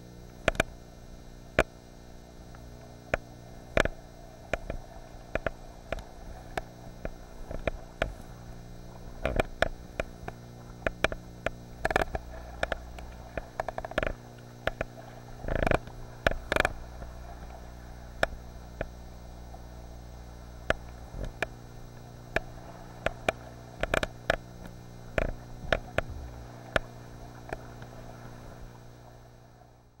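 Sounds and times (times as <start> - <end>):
camera electrical hum: 0.0 - 30.0
water and paddle knocking: 0.4 - 0.7, 2.4 - 29.8.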